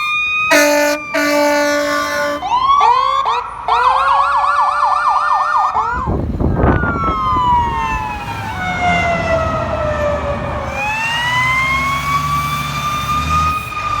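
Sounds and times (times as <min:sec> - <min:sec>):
fire engine siren: 0:00.0 - 0:14.0
truck engine rumble: 0:00.0 - 0:14.0.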